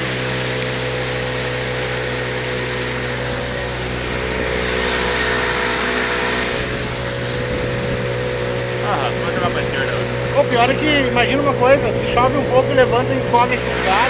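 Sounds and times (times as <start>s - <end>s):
motorboat engine running: 0.0s - 14.0s
water rushing over hull: 0.0s - 14.0s.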